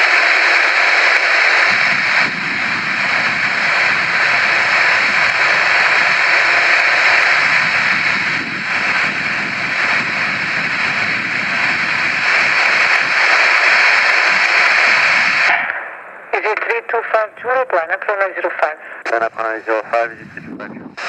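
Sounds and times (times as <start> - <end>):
jet engines rushing and whining: 0.0 - 21.0.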